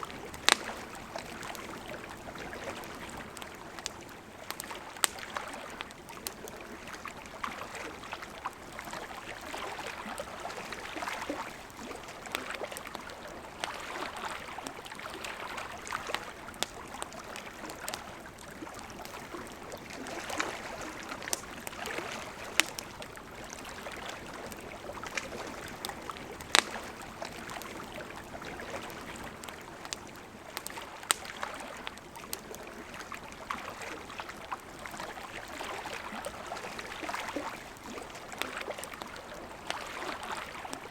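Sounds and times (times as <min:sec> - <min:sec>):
campfire crackling: 0:00.0 - 0:40.9
river flowing: 0:00.0 - 0:40.9.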